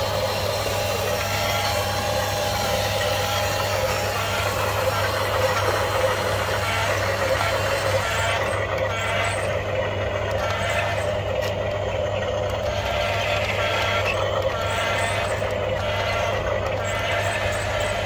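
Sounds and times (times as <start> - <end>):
toy truck engine sound effect: 0.0 - 18.0.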